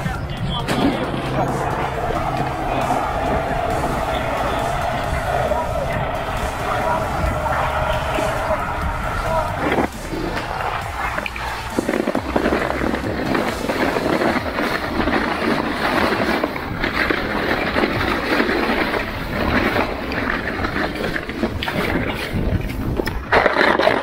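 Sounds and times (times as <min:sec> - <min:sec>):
sled sliding over snow: 0:00.0 - 0:24.0
wind buffeting microphone: 0:00.0 - 0:24.0.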